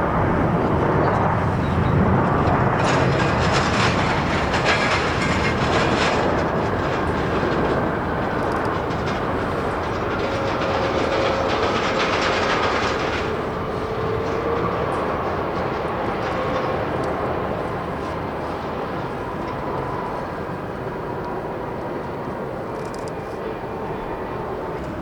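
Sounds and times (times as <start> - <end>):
jet engine roar with whine: 0.0 - 25.0.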